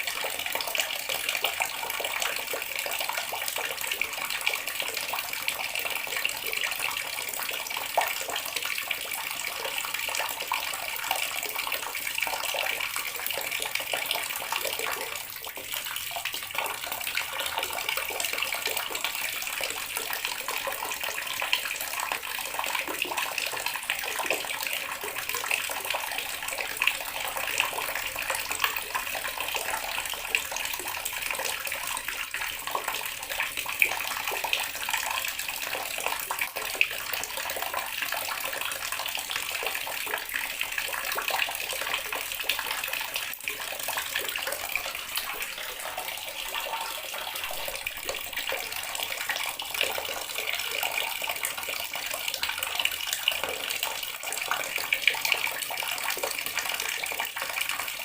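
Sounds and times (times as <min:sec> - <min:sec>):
tap water running and splashing: 0:00.0 - 0:58.0.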